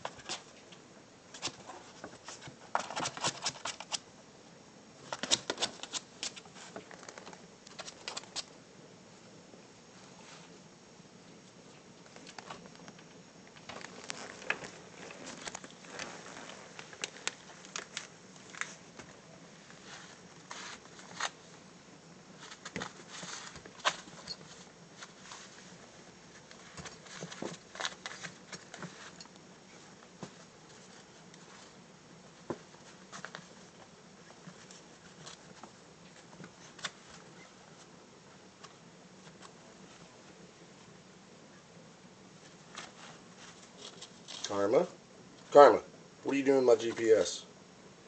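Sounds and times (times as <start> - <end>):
faint clicks and scratches: 0.0 - 4.1, 5.0 - 8.6, 11.3 - 21.6, 22.3 - 41.7, 42.3 - 44.6.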